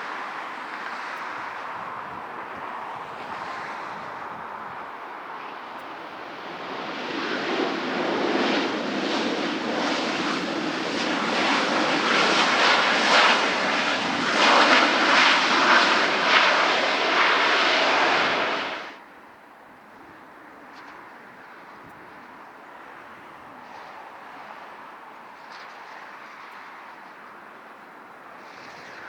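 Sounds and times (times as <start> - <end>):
jet engines passing close: 0.0 - 19.2, 19.9 - 29.0.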